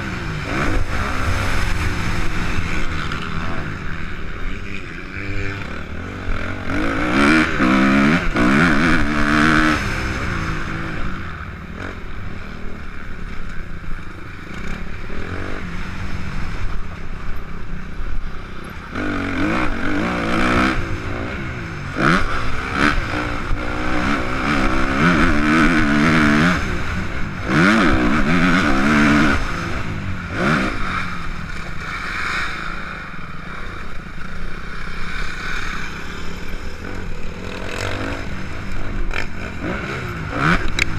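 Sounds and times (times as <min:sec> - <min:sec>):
motocross engine revving: 0:00.0 - 0:12.8, 0:18.8 - 0:40.9.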